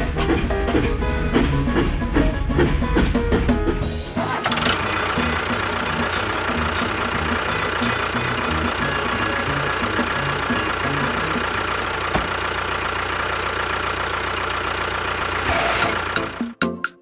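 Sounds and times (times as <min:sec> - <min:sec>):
engine idling with knocking: 0:00.0 - 0:16.6.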